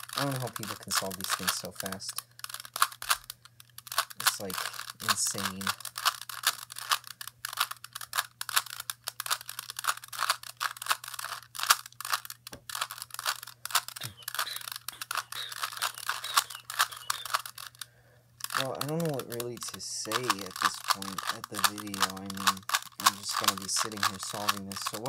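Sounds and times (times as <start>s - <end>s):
rubik's cube plastic clicks: 0.0s - 25.0s.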